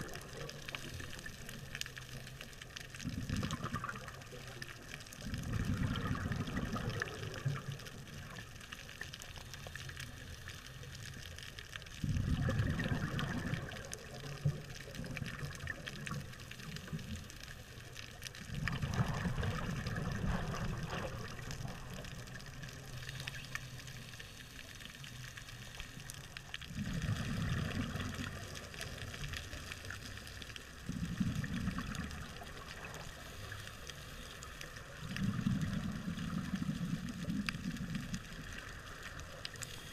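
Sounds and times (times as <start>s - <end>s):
faint steady hiss: 0.0s - 39.9s
underwater exhaled bubbles rumbling: 0.0s - 39.9s.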